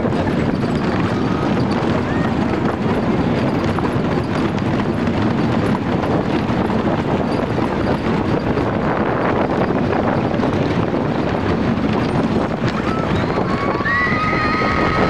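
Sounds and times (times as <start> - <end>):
roller coaster clacking on track: 0.0 - 15.0.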